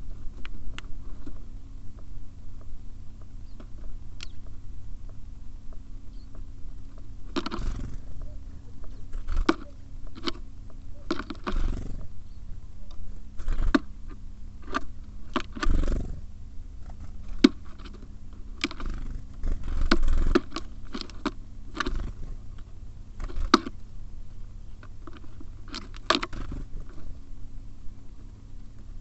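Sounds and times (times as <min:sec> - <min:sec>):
birds pecking at seed: 0:00.0 - 0:29.0.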